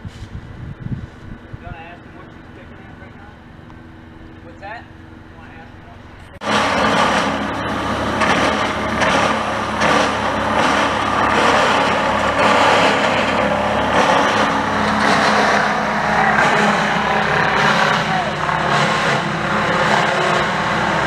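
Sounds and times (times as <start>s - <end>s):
chipper engine hum: 1.1s - 21.0s.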